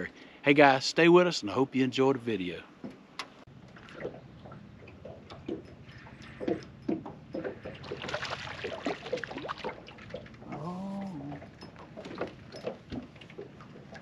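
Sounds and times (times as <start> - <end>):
waves lapping against boat hull: 2.8 - 14.0.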